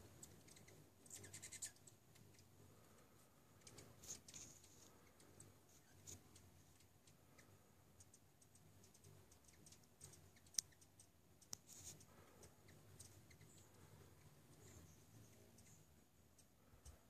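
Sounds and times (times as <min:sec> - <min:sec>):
hummingbirds chipping: 0:00.0 - 0:17.0.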